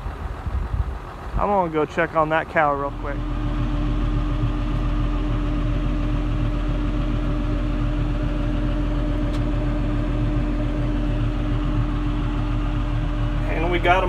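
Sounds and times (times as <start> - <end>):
tractor diesel engine drone: 0.0 - 14.0.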